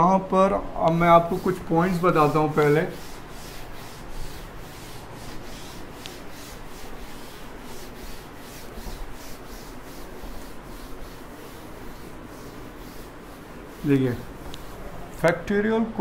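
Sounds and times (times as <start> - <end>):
duster wiping chalkboard: 0.8 - 15.5.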